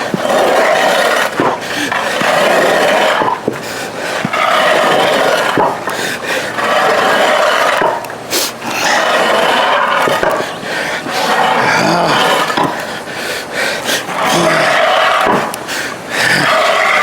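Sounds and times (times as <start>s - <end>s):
sled scraping along floor: 0.0s - 17.0s.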